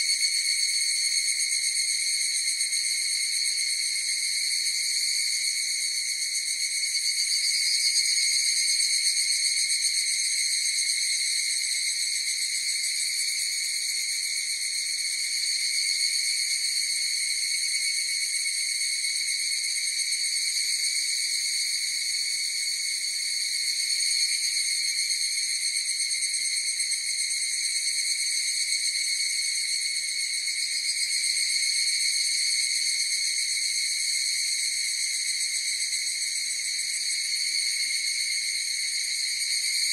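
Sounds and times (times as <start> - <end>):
cicadas calling in chorus: 0.0 - 39.9.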